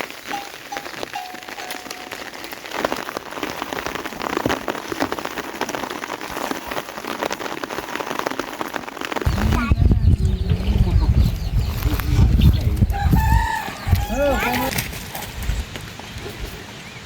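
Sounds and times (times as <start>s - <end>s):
rain pattering on a surface: 0.0s - 17.0s.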